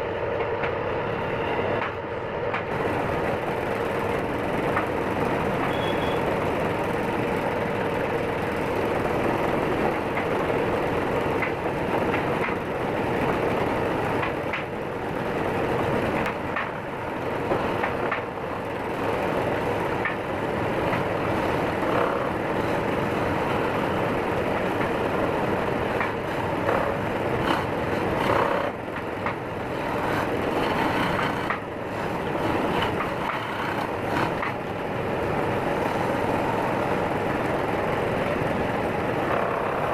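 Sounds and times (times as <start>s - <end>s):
wood lathe droning: 2.7s - 39.9s.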